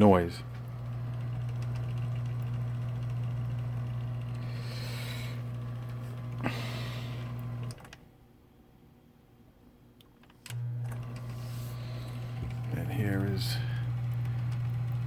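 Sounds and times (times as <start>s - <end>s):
electric typewriter motor humming: 0.0s - 8.0s, 10.5s - 15.0s.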